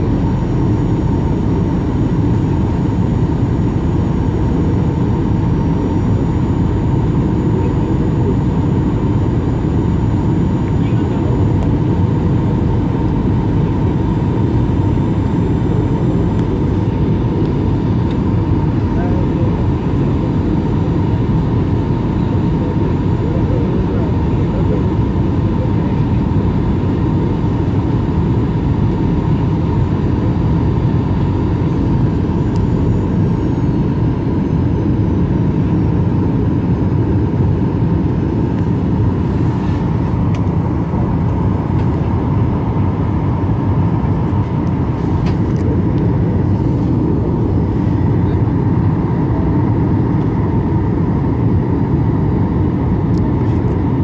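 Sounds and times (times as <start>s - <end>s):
faint steady whine: 0.0s - 54.0s
jet engines and airflow rushing: 0.0s - 54.0s.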